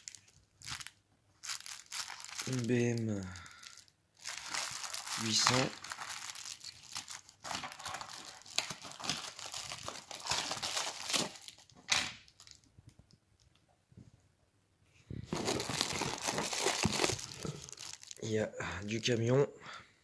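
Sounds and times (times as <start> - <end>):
plastic bags and bubble wrap crinkling: 0.0 - 13.1, 15.2 - 19.2.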